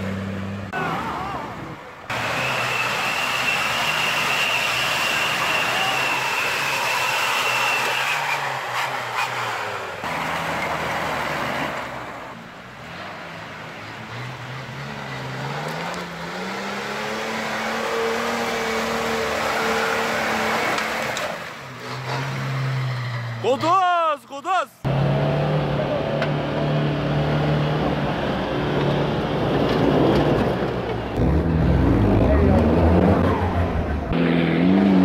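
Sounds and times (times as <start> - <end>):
off-road vehicle engine revving: 0.0 - 23.5, 24.8 - 35.0.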